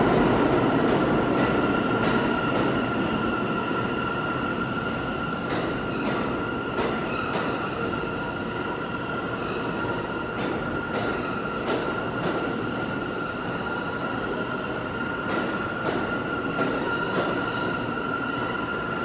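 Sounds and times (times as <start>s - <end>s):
rumble of train wheels on rail: 0.0s - 19.0s.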